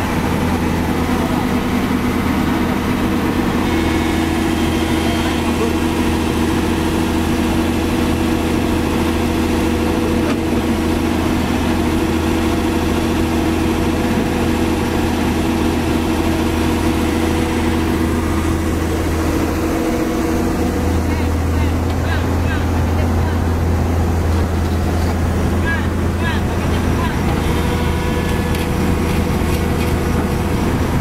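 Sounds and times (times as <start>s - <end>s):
truck diesel engine idling: 0.0s - 31.0s.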